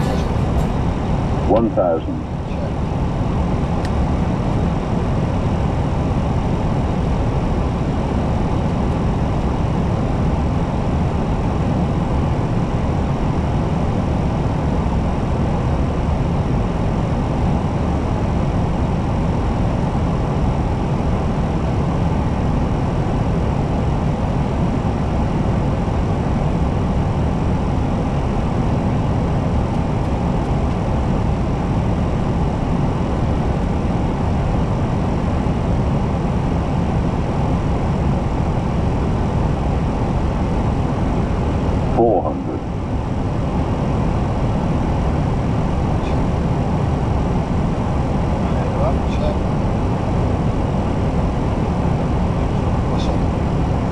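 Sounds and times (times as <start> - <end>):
low airplane cockpit noise: 0.0 - 53.9.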